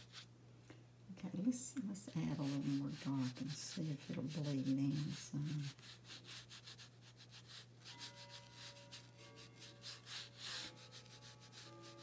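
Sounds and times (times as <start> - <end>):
brush stroking on paper: 0.0 - 0.3, 1.4 - 12.0.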